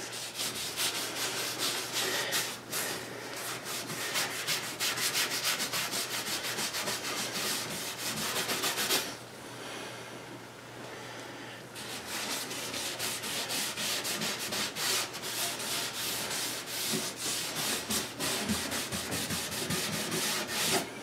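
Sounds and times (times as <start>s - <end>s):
cloth rag rubbing wood: 0.0s - 9.2s, 11.8s - 20.9s.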